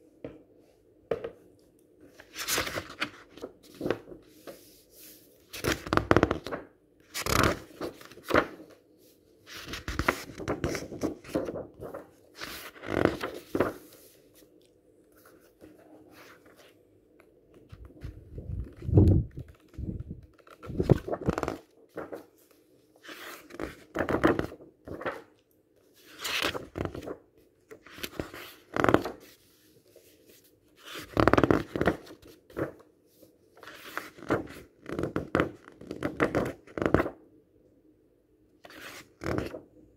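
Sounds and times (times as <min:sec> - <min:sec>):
book pages turning: 0:02.1 - 0:08.8, 0:09.5 - 0:37.2, 0:38.6 - 0:39.6.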